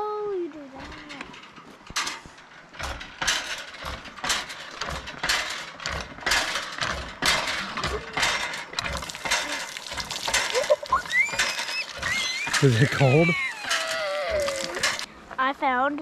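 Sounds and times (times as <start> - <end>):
hand water pump clanking: 0.6 - 15.1.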